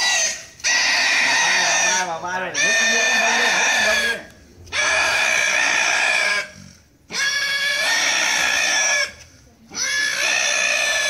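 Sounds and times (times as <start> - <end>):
boar squealing: 0.0 - 11.0.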